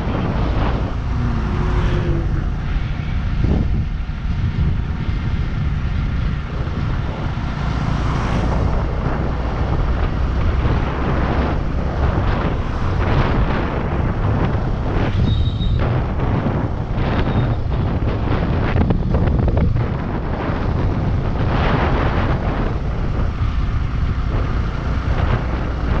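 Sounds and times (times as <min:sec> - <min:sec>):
motorcycle engine drone: 0:00.0 - 0:26.0
wind rumble on microphone: 0:00.0 - 0:26.0.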